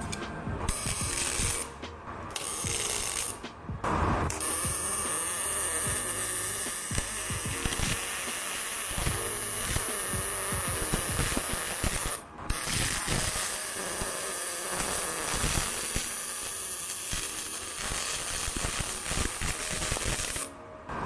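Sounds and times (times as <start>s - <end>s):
welding arc crackling buzz: 0.7s - 3.4s, 4.3s - 20.5s.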